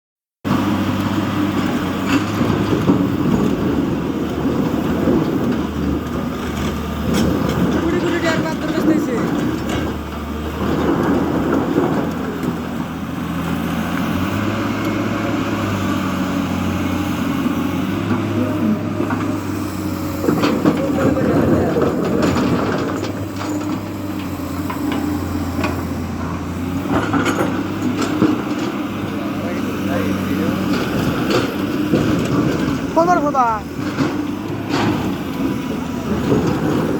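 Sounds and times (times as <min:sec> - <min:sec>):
diesel engine running steadily: 0:00.5 - 0:36.9.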